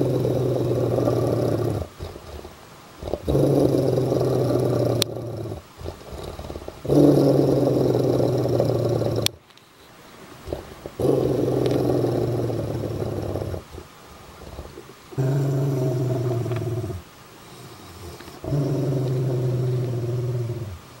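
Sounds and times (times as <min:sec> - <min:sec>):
dog growling low: 0:00.0 - 0:09.4, 0:10.4 - 0:17.1, 0:17.7 - 0:20.9.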